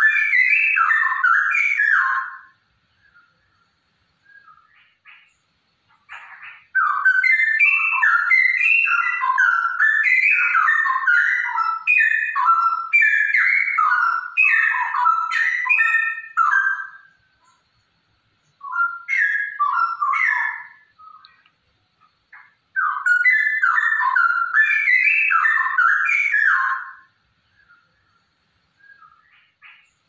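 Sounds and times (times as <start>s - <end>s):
bird singing whistled notes: 0.0s - 30.0s.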